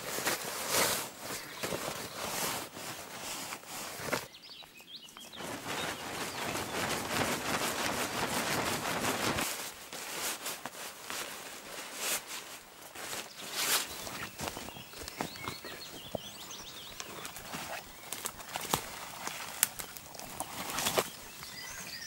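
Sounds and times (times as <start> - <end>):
rustling of nylon camping gear: 0.0 - 22.0.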